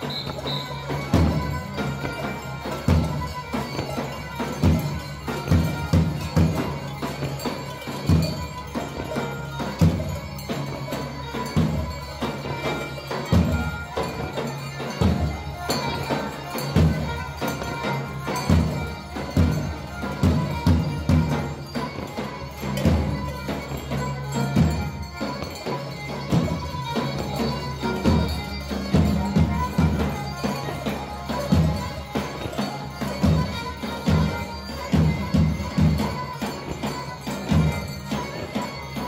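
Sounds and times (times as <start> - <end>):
nasal folk melody: 0.0 - 39.0.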